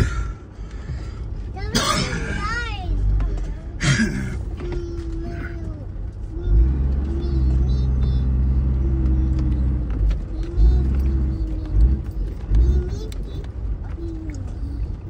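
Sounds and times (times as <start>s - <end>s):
off-road vehicle engine rumbling: 0.0s - 15.0s.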